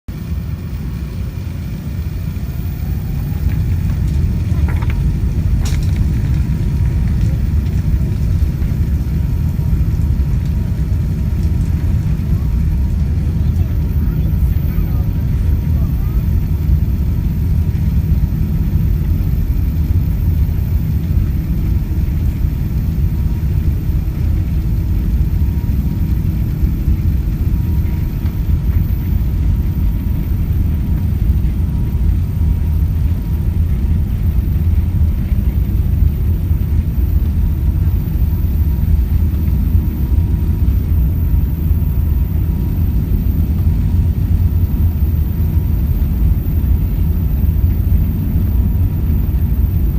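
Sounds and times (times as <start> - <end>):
airliner deep rumble: 0.0 - 49.9.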